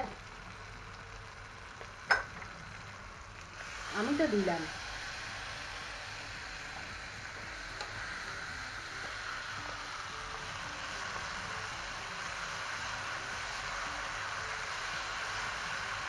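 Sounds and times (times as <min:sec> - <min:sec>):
paste sizzling in oil: 0:00.0 - 0:16.0.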